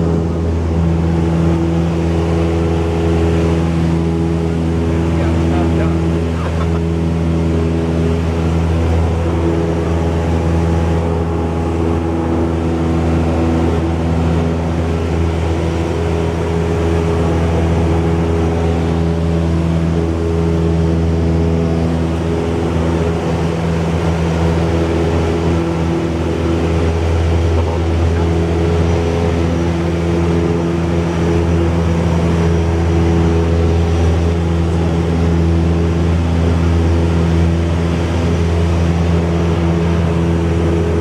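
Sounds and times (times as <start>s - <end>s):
aircraft piston engine and propeller: 0.0s - 41.0s.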